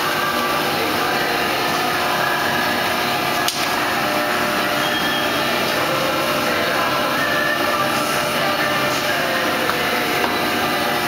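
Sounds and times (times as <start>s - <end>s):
machinery drone with whining tones: 0.0s - 11.0s.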